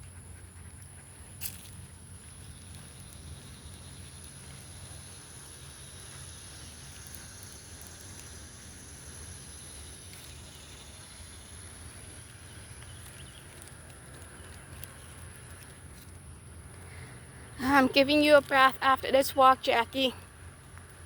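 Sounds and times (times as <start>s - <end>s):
faint ticks: 0.0s - 17.4s
outdoor background noise: 0.0s - 21.0s.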